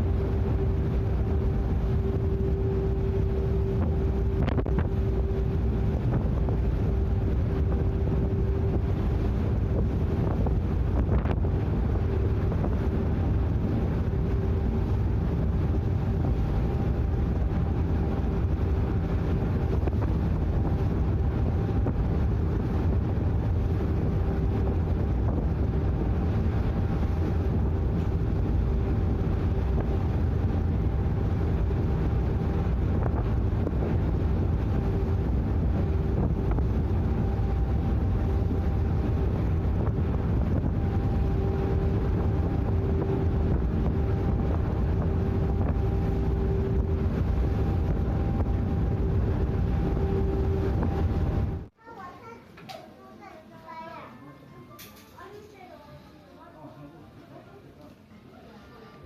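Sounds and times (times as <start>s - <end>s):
wind buffeting microphone: 0.0s - 51.7s
ship engine rumbling: 0.0s - 52.2s.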